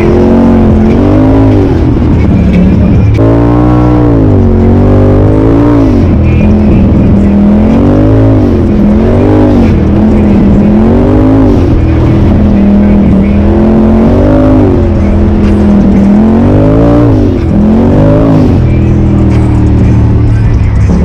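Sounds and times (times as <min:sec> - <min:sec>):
engine revving under load: 0:00.0 - 0:21.0.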